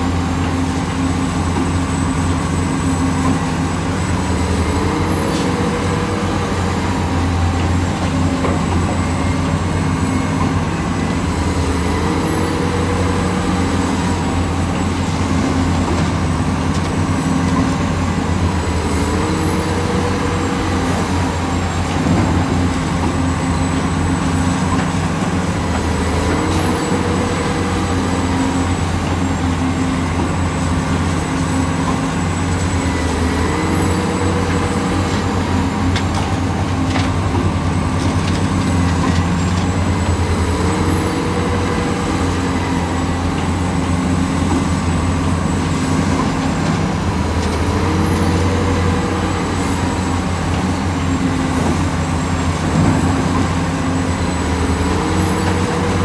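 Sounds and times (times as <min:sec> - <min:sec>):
excavator diesel engine running: 0:00.0 - 0:56.0
rising hydraulic tone: 0:00.0 - 0:56.0.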